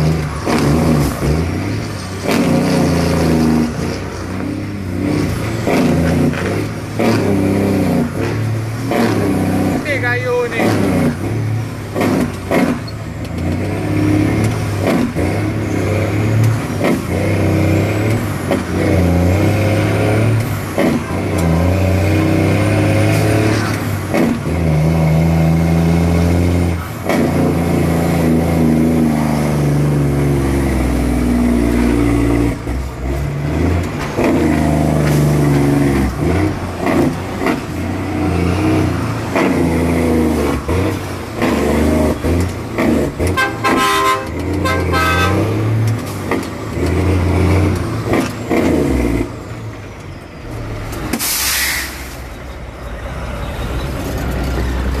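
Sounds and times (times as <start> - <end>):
truck engine pulling hard: 0.0 - 55.0.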